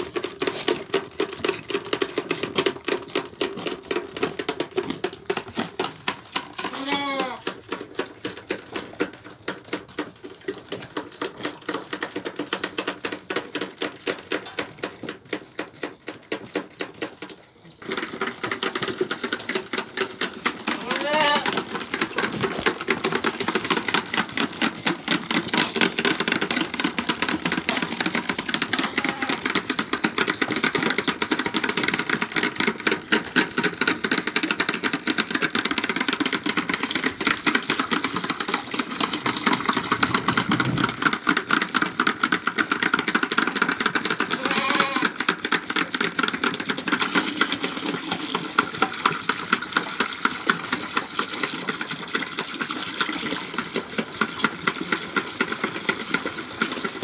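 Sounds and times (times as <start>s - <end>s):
lambs sucking milk: 0.0s - 57.0s.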